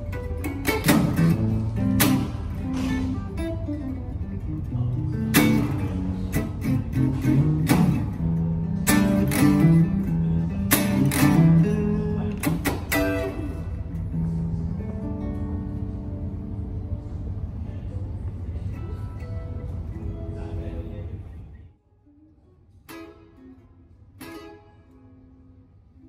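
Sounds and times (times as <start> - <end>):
electric guitar playing: 0.0 - 17.6, 22.0 - 26.0.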